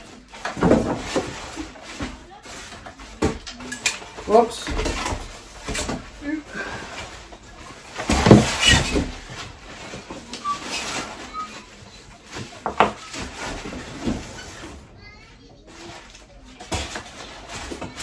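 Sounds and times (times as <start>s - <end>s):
foam and cardboard rustling: 0.0s - 18.0s.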